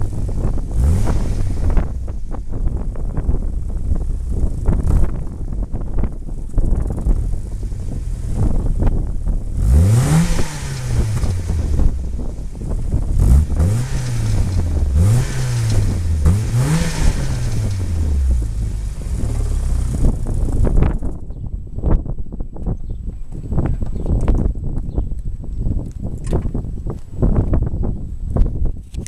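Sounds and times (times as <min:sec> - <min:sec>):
car engine idling and revving: 0:00.0 - 0:24.4.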